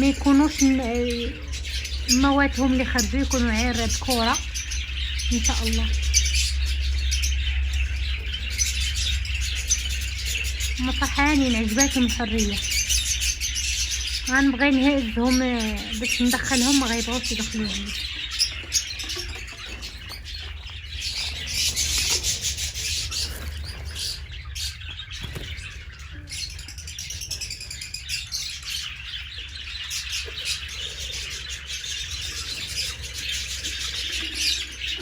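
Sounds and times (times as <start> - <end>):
small birds chirping: 0.0 - 35.0
steady low hum: 0.0 - 35.0.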